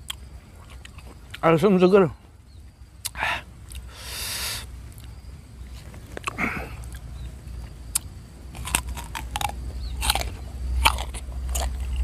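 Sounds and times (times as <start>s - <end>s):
crunching and chewing fruit: 0.0s - 12.0s
steady low rumble: 2.2s - 12.0s.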